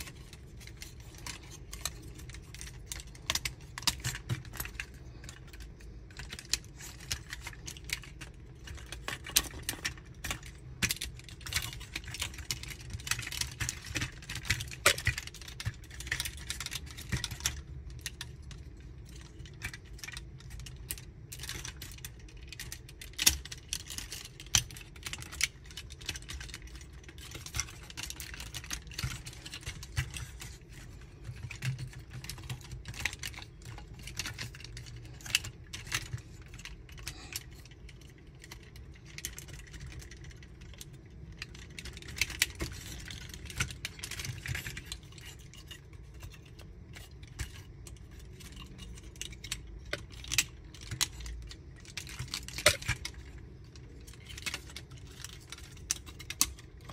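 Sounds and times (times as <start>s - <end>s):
plastic toy parts clicking: 0.0s - 56.9s.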